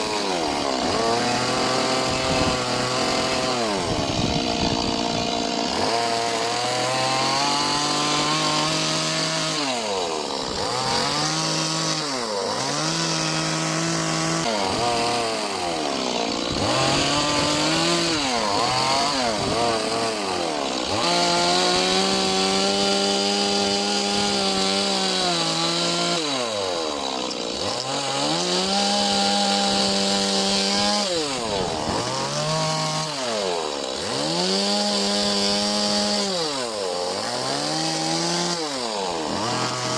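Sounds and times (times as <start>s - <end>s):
chainsaw revving while carving wood: 0.0s - 39.9s.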